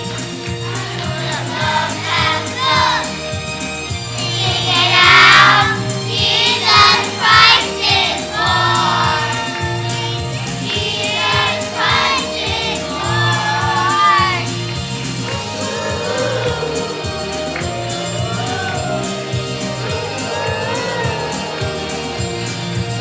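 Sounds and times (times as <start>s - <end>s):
children's choir singing: 0.0s - 23.0s
instrumental accompaniment with beat: 0.0s - 23.0s.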